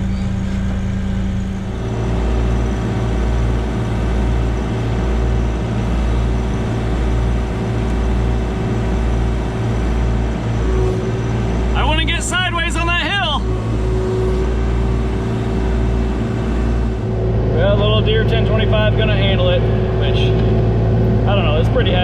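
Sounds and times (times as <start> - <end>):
hydraulic whine: 0.0 - 22.0
tractor diesel engine under load: 0.0 - 22.0.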